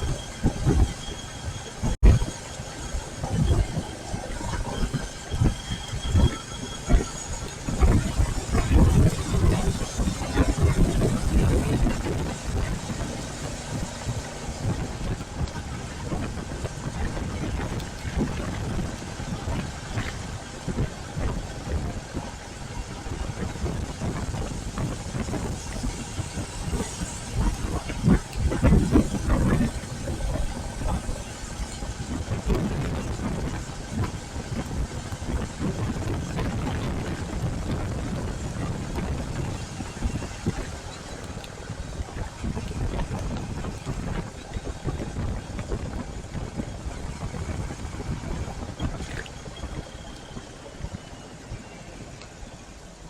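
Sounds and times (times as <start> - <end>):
motorcycle engine at low revs: 0.0 - 50.3
wind buffeting microphone: 0.0 - 53.0.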